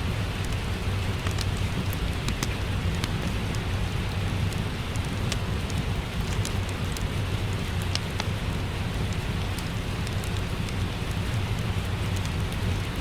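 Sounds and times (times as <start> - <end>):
fireplace crackling: 0.0 - 13.0
steady rain: 0.0 - 13.0.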